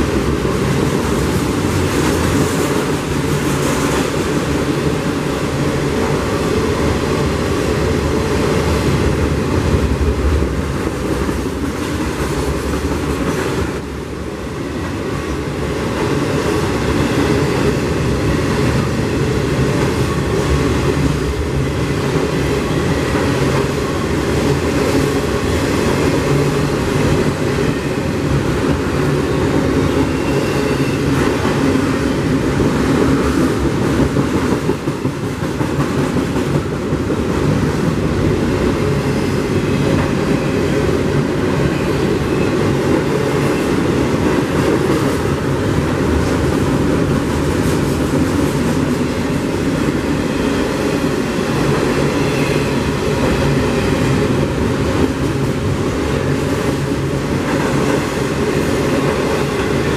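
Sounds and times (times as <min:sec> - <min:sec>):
train wheels rolling on rail: 0:00.0 - 0:59.9.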